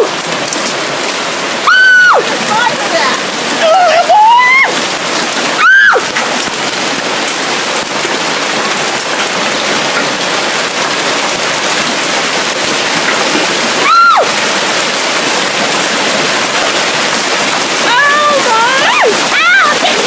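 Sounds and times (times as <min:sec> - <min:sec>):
large hailstones pelting down: 0:00.0 - 0:20.0.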